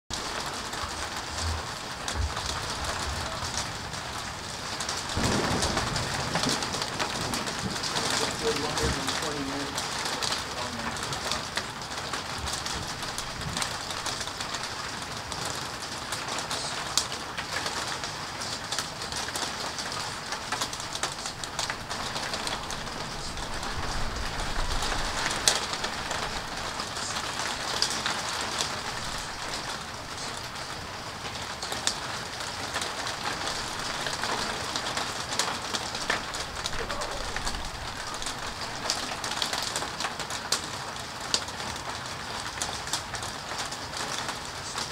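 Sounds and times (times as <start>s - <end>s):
steady rain hiss: 0.1s - 44.9s.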